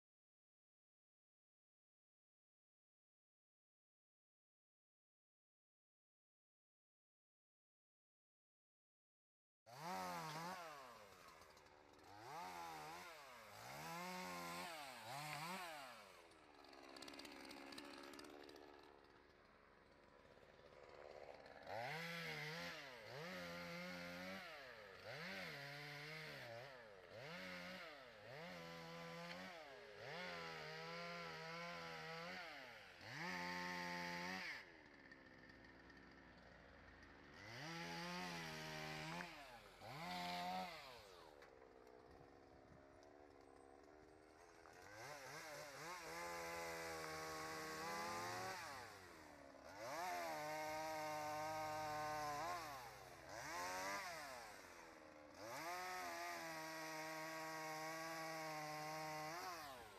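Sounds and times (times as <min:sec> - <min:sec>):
chainsaw cutting branches: 0:09.7 - 0:59.9.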